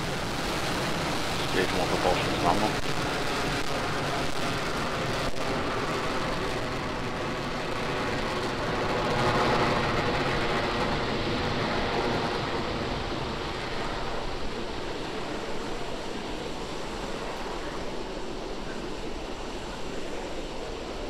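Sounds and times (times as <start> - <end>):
rocket engines rumbling: 0.0 - 21.0.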